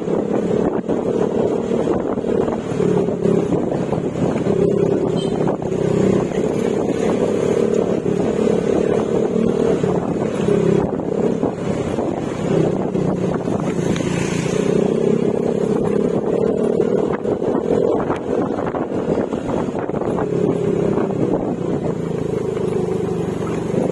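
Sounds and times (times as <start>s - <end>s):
scooter engine cruising: 0.0s - 23.9s.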